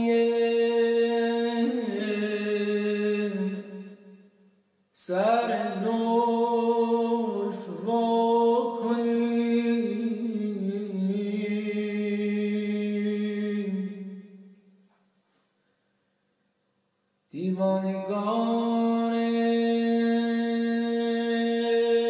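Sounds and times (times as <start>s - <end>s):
man singing unaccompanied: 0.0s - 3.8s, 5.0s - 14.2s, 17.3s - 22.0s.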